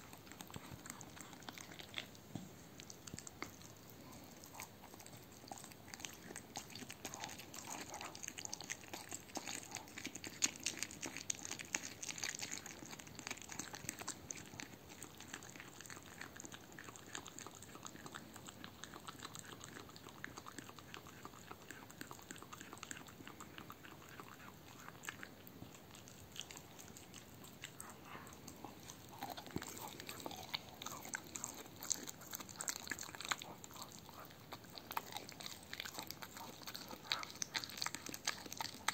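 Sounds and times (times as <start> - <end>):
dog chewing and licking meat: 0.0 - 38.9.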